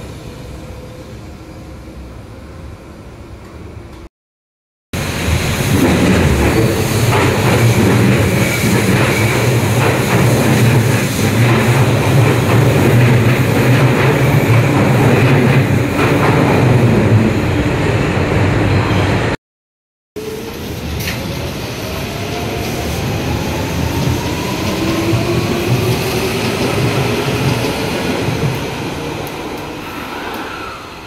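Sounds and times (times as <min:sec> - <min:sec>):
train rumbling past: 0:05.0 - 0:19.4, 0:20.2 - 0:31.0.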